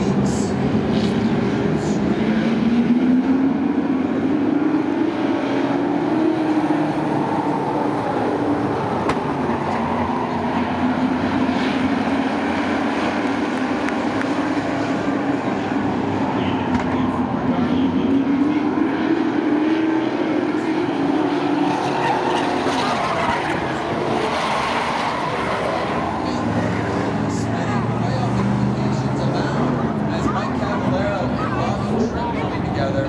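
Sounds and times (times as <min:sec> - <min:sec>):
racing truck engines: 0:00.0 - 0:33.0.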